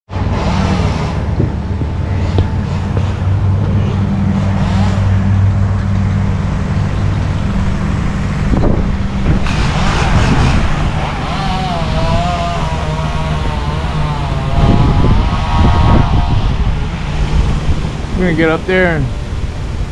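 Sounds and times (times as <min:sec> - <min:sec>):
engine running with low hum: 0:00.1 - 0:19.9.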